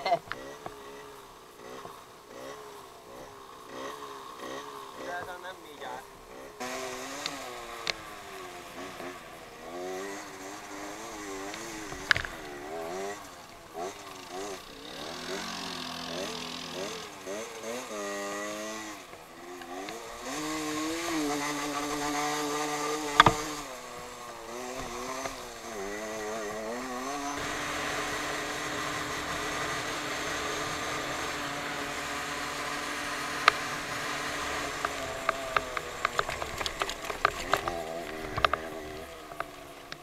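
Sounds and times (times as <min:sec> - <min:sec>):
small motorcycle engine running: 0:00.0 - 0:40.0.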